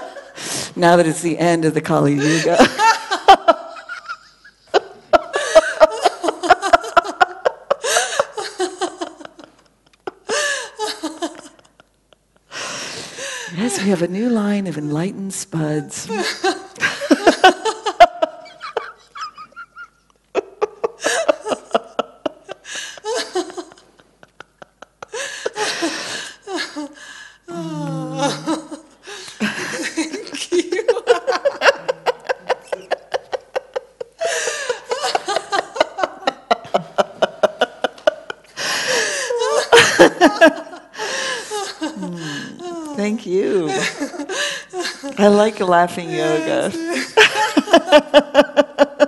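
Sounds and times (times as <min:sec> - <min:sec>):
person laughing heartily: 0:02.2 - 0:11.9, 0:16.1 - 0:45.2, 0:46.0 - 0:49.0.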